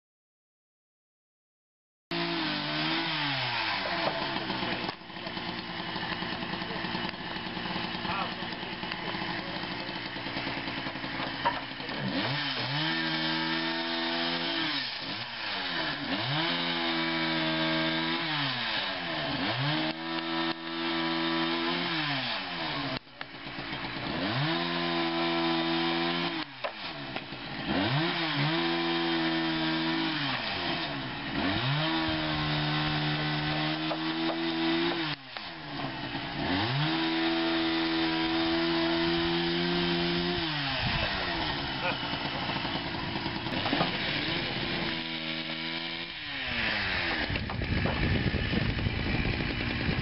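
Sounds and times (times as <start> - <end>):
chainsaw engine revving: 2.1 - 50.0.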